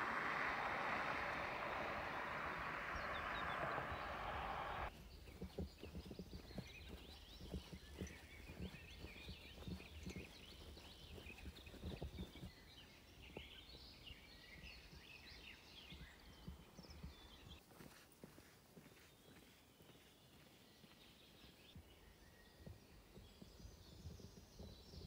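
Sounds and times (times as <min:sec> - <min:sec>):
small birds chirping: 0:00.0 - 0:25.0
faint footsteps on woodland path: 0:04.9 - 0:25.0.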